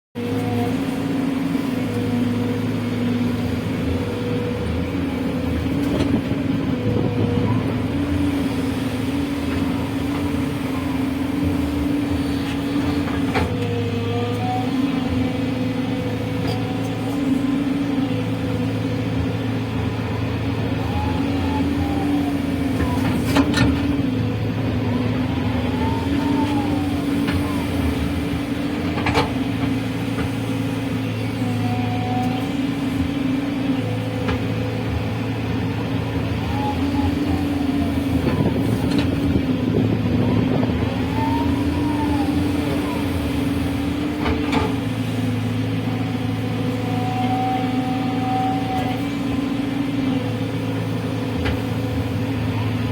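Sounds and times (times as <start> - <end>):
backhoe diesel engine running: 0.2 - 52.9.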